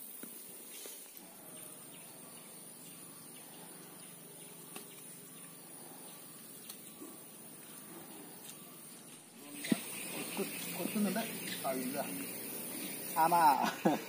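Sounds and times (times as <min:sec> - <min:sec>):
high insect hum: 0:00.0 - 0:14.0
faint bird chirps: 0:01.2 - 0:13.5.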